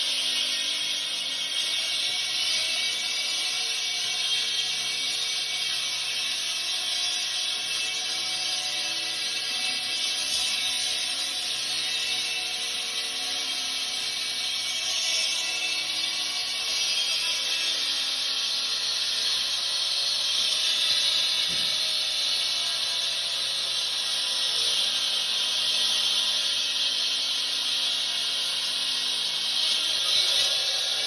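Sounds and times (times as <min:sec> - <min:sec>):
concrete saw running: 0:00.0 - 0:31.0.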